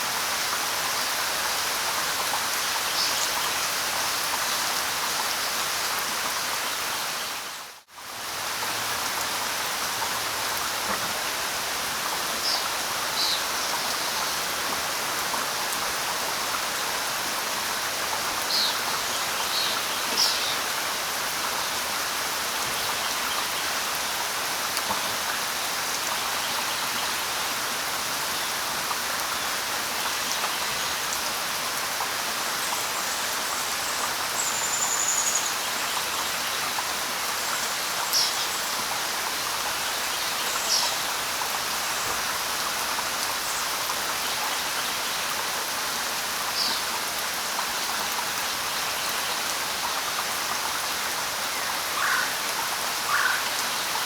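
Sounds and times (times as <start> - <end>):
light rain pattering on leaves: 0.0 - 54.0.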